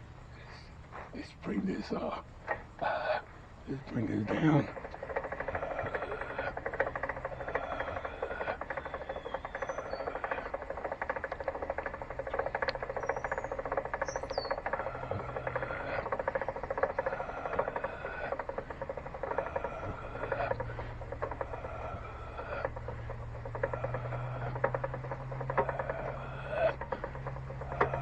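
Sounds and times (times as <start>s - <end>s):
hand crank rapid fine clicking: 3.9s - 28.0s.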